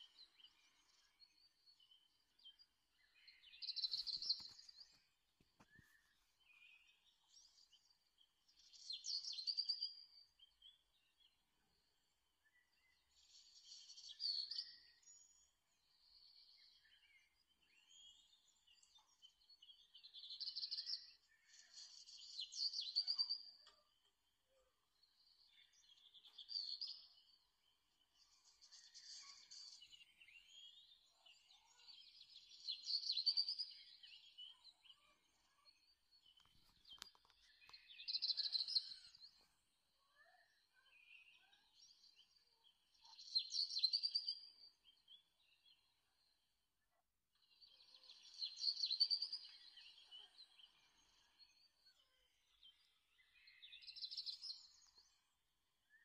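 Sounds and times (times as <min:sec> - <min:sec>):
songbirds chirping and singing: 0:00.0 - 0:46.6, 0:47.3 - 0:56.0.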